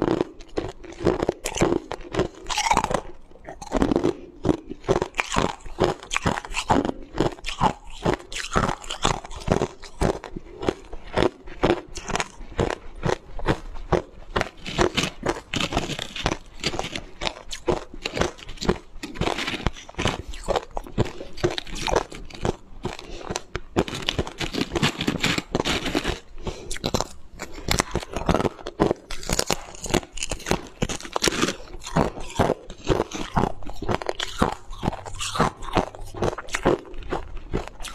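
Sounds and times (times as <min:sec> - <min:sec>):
ice crunching while chewed: 0:00.0 - 0:37.9.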